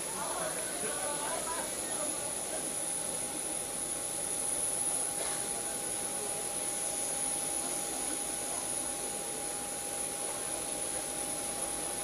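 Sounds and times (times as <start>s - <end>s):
jet turbine idling: 0.0s - 12.0s.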